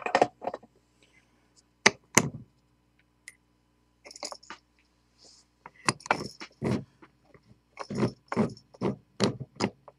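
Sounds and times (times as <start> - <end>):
faint electrical hum: 0.0 - 9.9.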